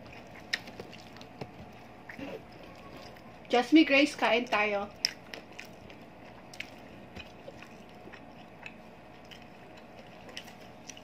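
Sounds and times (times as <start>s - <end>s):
chewing and mouth noises: 0.0s - 3.5s, 4.9s - 11.0s.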